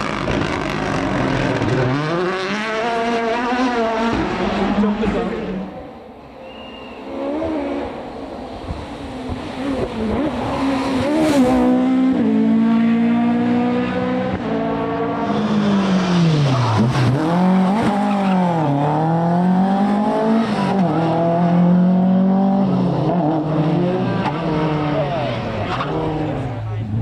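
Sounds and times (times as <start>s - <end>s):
rally car engine revving: 0.0s - 6.0s, 7.0s - 27.0s.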